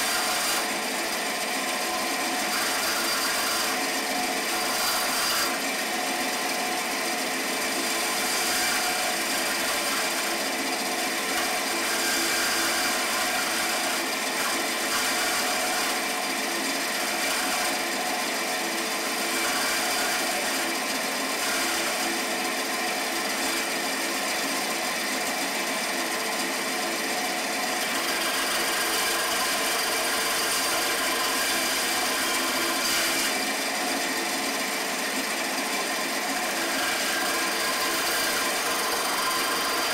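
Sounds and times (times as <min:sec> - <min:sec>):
bandsaw cutting plywood: 0:00.0 - 0:39.9.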